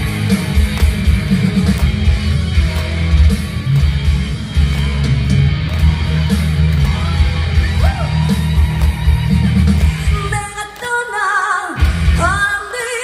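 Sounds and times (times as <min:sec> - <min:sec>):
rock band instrumental: 0:00.0 - 0:10.6, 0:11.8 - 0:12.5.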